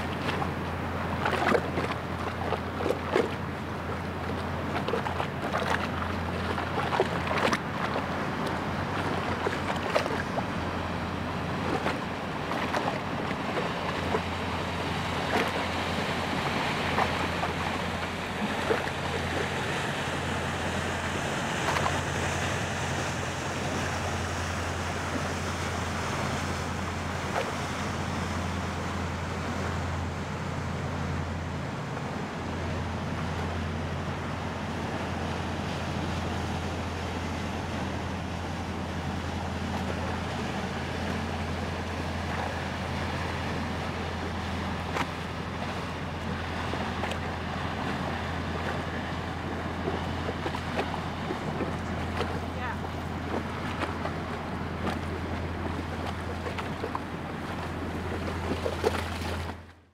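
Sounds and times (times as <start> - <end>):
churning water from bow wave: 0.0 - 59.9
diesel engine low drone: 0.0 - 59.9
water splashes: 0.0 - 59.9.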